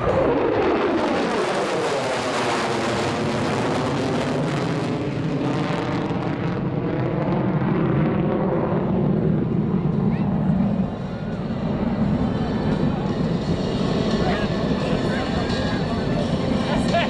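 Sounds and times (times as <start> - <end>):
jet bomber flying by: 0.0 - 17.0.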